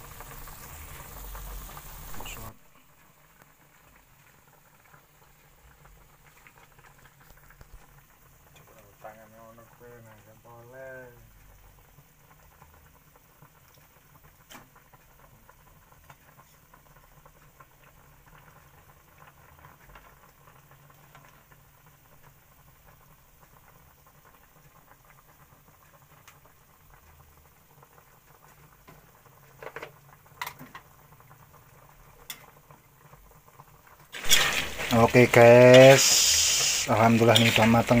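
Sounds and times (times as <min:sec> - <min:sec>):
food bubbling in a pan: 0:00.0 - 0:38.0.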